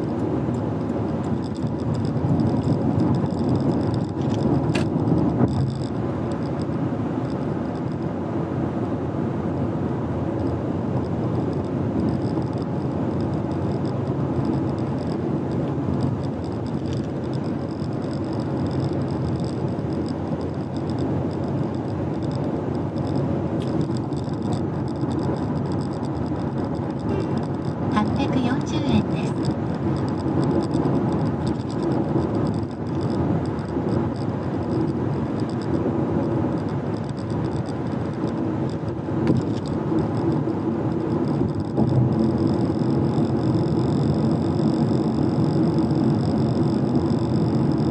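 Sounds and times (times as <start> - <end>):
car engine: 0.0 - 47.9
tyre and road noise: 0.0 - 47.9.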